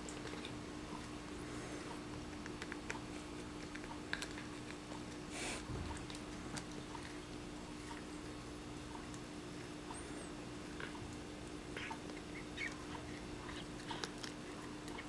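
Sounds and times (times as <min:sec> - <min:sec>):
cat chewing crunchy treat: 0:00.0 - 0:15.0
steady low hum: 0:00.0 - 0:15.0.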